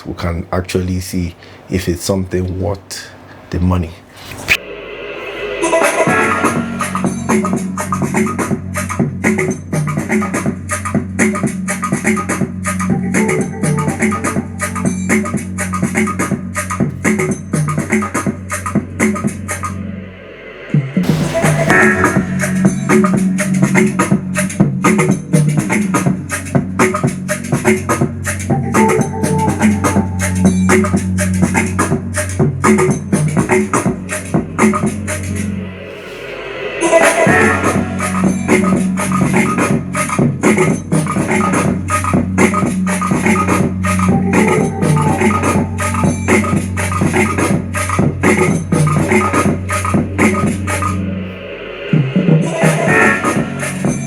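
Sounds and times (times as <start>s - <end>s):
up-tempo music with heavy bass: 5.6s - 20.0s, 20.8s - 54.0s.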